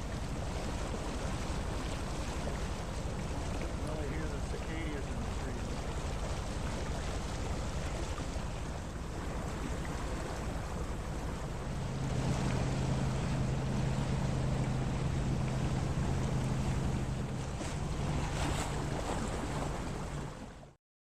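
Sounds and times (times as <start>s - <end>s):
boat engine humming: 0.0s - 20.8s
water rushing past hull: 0.0s - 20.8s.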